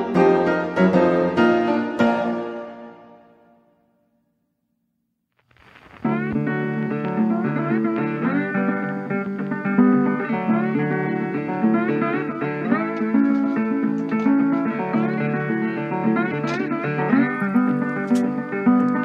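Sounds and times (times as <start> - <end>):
guitar plucked notes: 0.0 - 2.8, 6.0 - 19.0.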